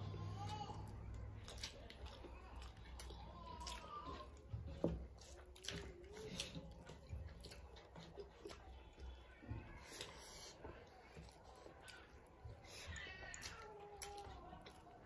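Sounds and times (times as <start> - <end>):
wet chewing and lip smacks: 0.4 - 9.2, 9.8 - 15.0.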